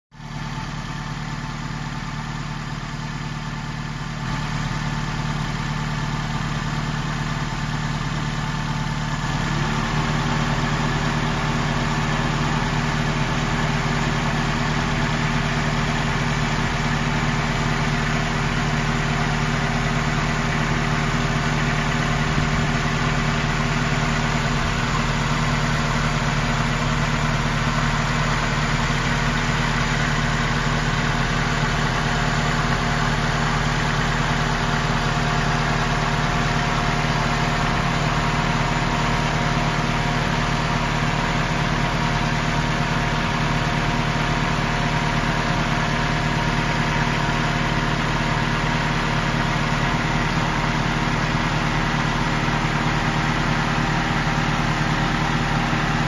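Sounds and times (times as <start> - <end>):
car engine idling: 0.1 - 56.0.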